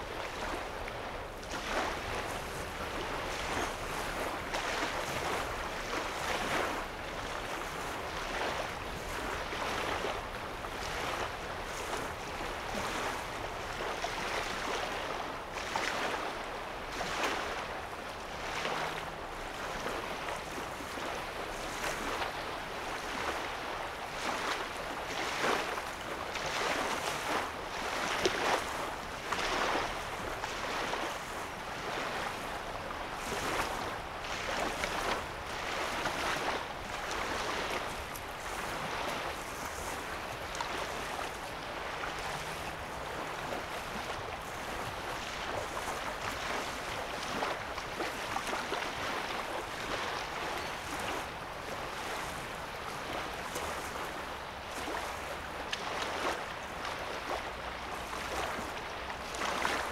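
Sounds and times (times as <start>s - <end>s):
small waves lapping on shore: 0.0s - 59.9s.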